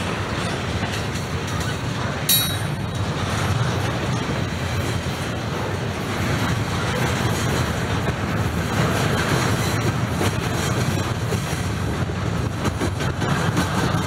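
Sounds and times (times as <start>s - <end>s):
freight train wheels rolling: 0.0s - 14.0s.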